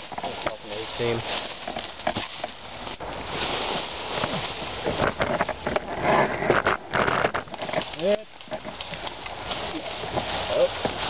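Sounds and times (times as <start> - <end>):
rustling in dry leaves: 0.0 - 11.0.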